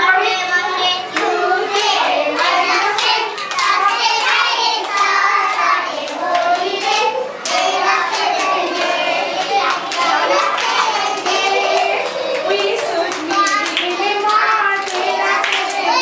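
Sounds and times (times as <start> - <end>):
children singing: 0.0 - 16.0
hand claps: 1.2 - 16.0.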